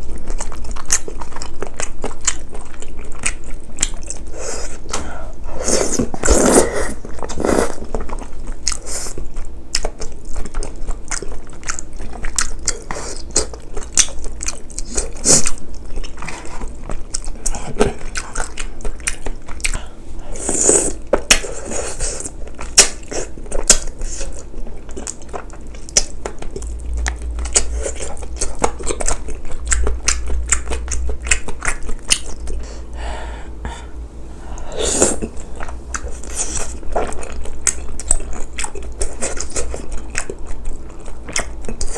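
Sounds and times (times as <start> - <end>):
chewing and biting food: 0.0 - 32.7, 34.9 - 41.9.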